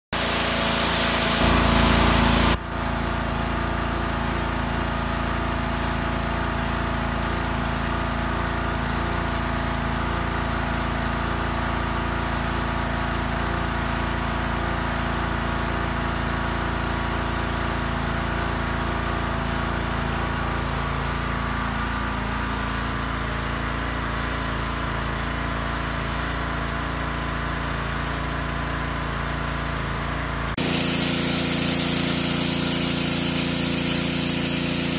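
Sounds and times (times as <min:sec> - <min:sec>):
pressure washer motor drone: 0:00.2 - 0:34.9
water jet spraying on deck boards: 0:00.2 - 0:34.9.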